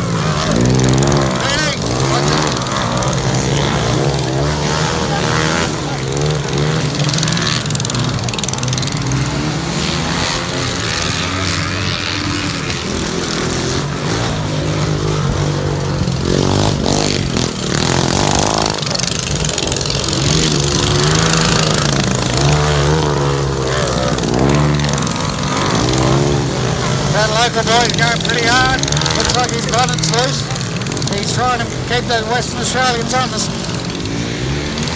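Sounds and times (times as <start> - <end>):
racing lawn mower engines: 0.0 - 34.9.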